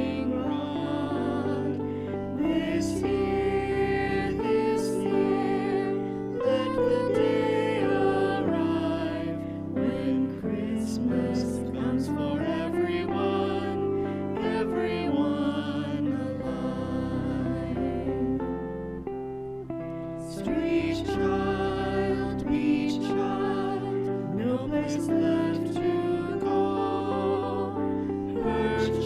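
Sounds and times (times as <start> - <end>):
gentle hymn singing: 0.0 - 29.0.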